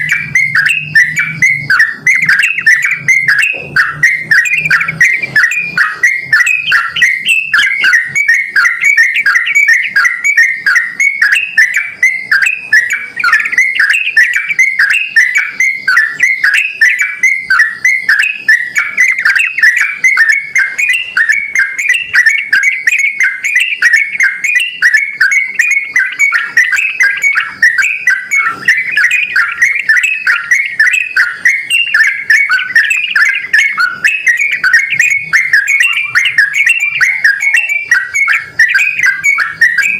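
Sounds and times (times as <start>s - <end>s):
bird singing chirping notes: 0.0s - 39.9s.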